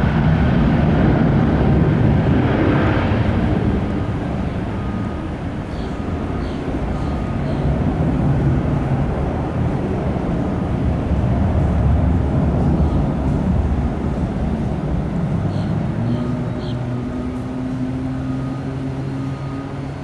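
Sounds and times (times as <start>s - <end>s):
aircraft engines humming: 0.0s - 20.0s.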